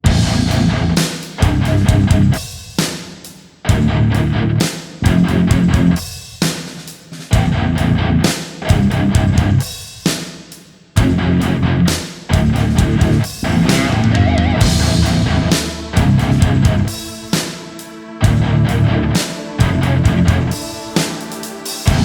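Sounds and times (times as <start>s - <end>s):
heavy rock music: 0.0s - 3.0s, 3.6s - 6.6s, 7.2s - 10.2s, 11.0s - 22.0s.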